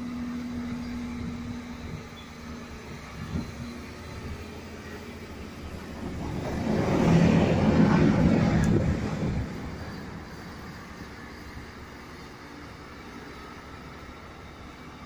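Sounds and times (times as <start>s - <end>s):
locomotives rumbling past: 0.6s - 15.0s.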